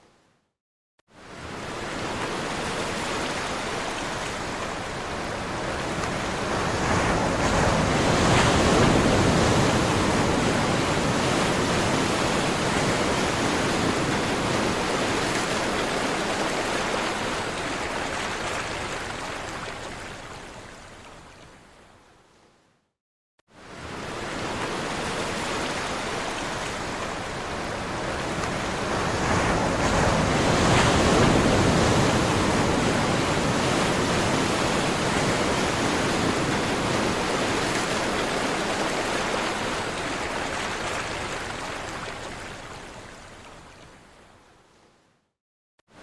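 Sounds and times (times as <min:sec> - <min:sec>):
sea waves washing: 0:01.2 - 0:20.3, 0:23.6 - 0:43.6.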